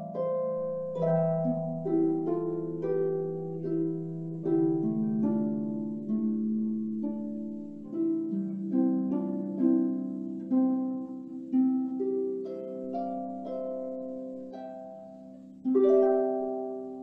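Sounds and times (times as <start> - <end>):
solo harp melody: 0.0 - 17.0.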